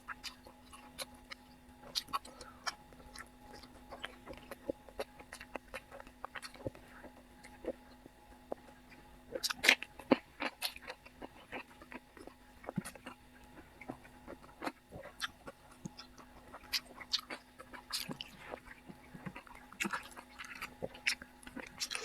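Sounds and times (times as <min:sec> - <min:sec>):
faint steady hum: 0:00.0 - 0:22.0
person chewing food: 0:00.0 - 0:22.0.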